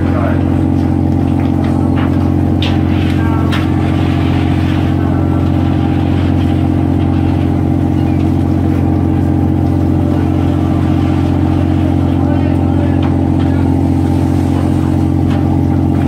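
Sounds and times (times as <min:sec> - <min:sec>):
boat engine and deck machinery drone: 0:00.0 - 0:16.0.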